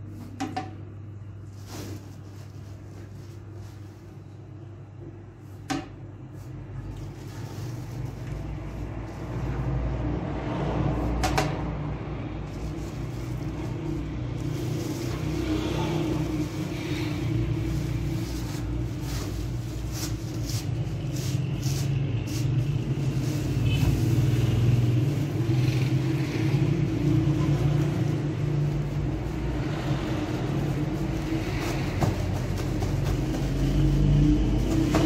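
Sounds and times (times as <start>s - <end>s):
flour sack rustling: 1.3s - 4.5s, 6.3s - 9.8s, 12.4s - 35.0s.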